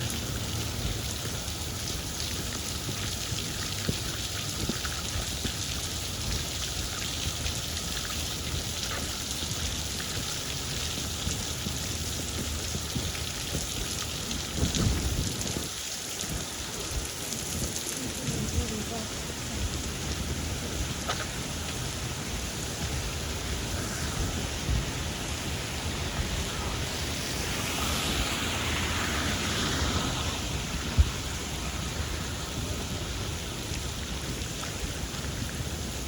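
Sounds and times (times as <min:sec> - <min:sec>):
low rain rumble: 0:00.0 - 0:36.0
rain drops ticking: 0:00.0 - 0:36.0.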